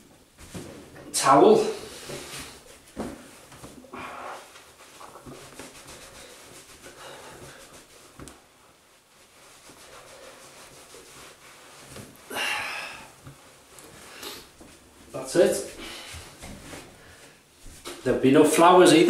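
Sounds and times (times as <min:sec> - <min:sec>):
towel rubbing on face: 0:01.6 - 0:17.0.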